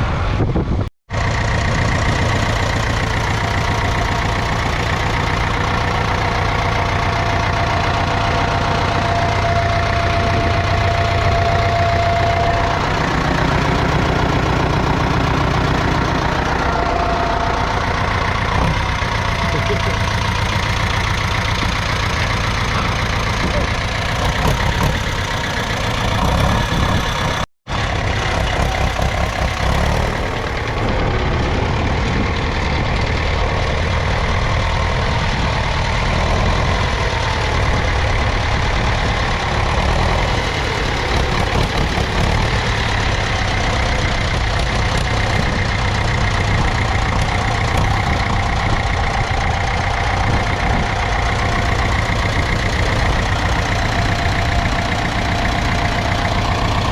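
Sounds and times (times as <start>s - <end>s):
diesel tractor engine running: 0.0s - 56.9s.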